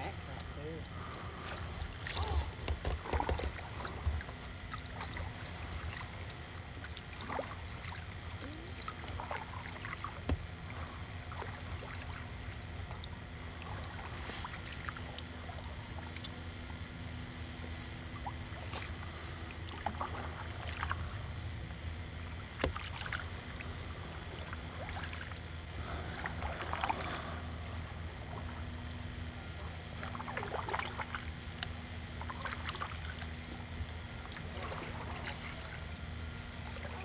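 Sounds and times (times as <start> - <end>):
canoe paddles pulling through water: 0.0 - 37.0
steady low hum: 0.0 - 37.0.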